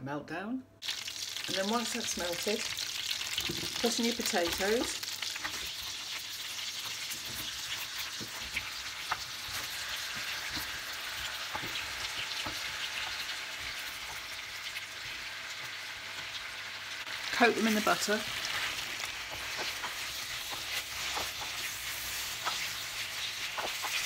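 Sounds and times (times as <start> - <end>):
potato slices sizzling in a pan: 0.8 - 24.0.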